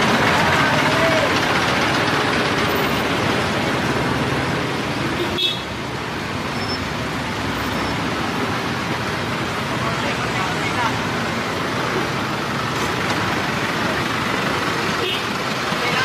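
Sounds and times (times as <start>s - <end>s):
road noise: 0.0s - 16.0s
vehicle engines: 0.0s - 16.0s.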